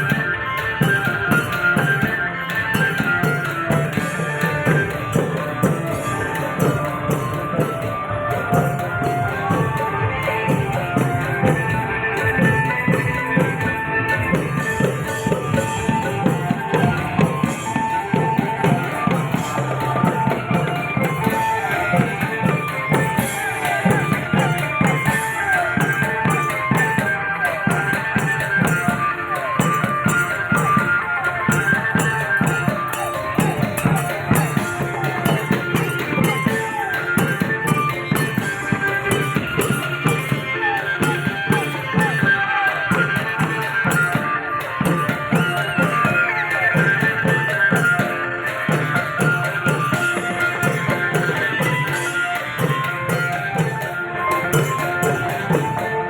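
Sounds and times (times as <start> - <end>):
long drums playing: 0.0 - 56.0
ringing metal percussion: 0.0 - 56.0.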